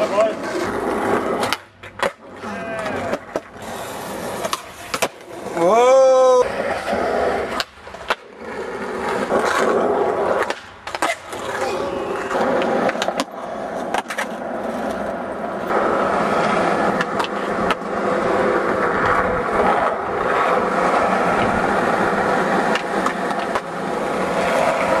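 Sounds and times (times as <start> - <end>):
skateboard popping and landing clacks: 0.0 - 5.6, 6.6 - 25.0
skateboard wheels rolling on concrete: 0.0 - 25.0.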